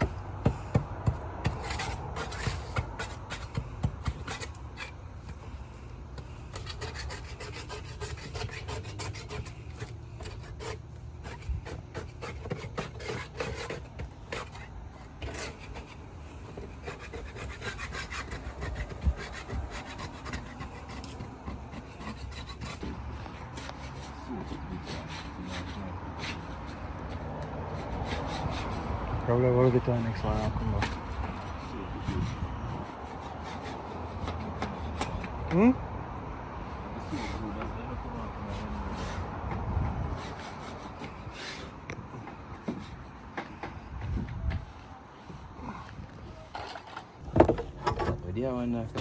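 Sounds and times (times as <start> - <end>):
wood scraping: 0.0 - 35.6, 36.6 - 49.0.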